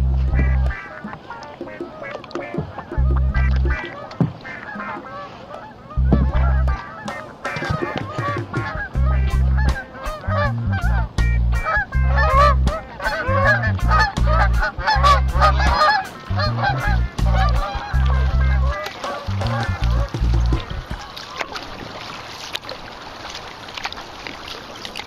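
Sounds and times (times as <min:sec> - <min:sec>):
geese honking: 0:00.0 - 0:22.4.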